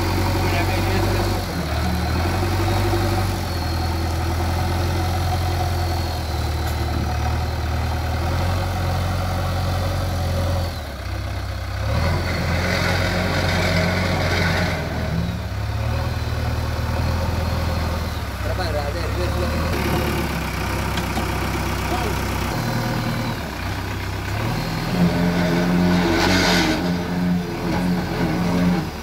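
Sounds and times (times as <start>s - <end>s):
backhoe diesel engine running: 0.0s - 29.0s.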